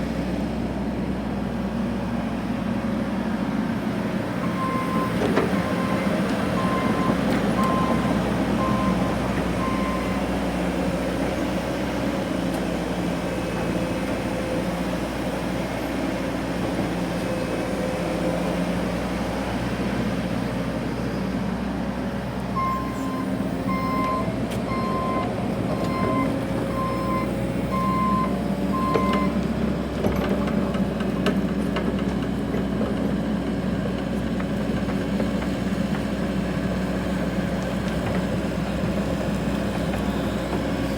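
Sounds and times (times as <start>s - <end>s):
excavator engine running: 0.1s - 40.9s.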